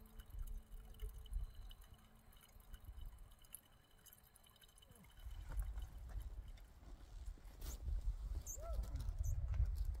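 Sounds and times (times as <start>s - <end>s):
water trickling and dripping: 0.0s - 10.0s.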